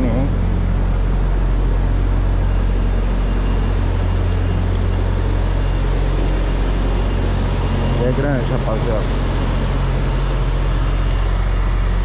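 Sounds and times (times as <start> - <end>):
machinery drone with hiss: 0.0 - 12.0.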